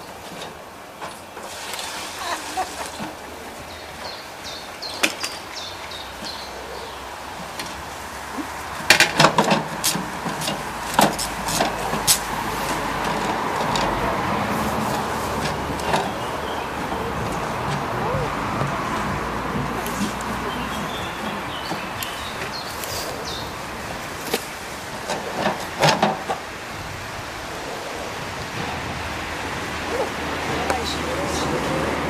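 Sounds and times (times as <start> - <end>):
steady rushing noise: 5.5 - 32.0.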